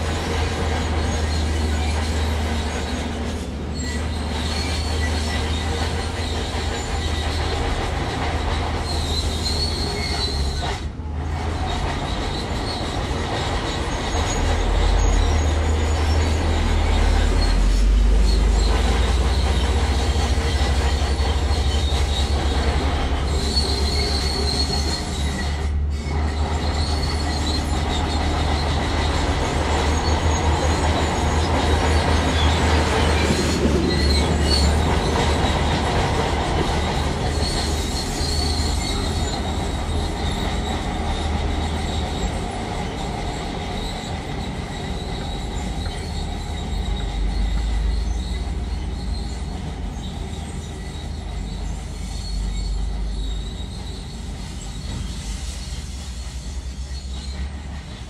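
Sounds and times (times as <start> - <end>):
steel tracks squealing and clattering: 0.0 - 58.0.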